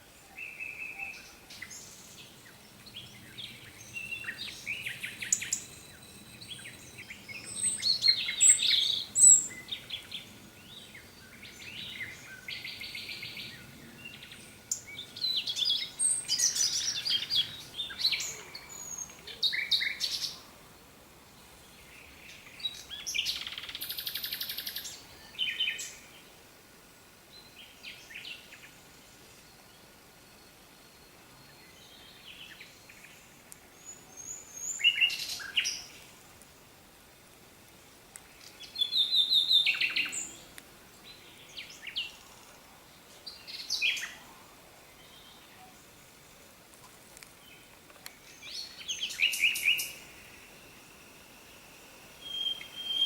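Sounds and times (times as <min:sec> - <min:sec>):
songbirds chirping and trilling: 0:00.0 - 0:36.2, 0:37.7 - 0:53.0.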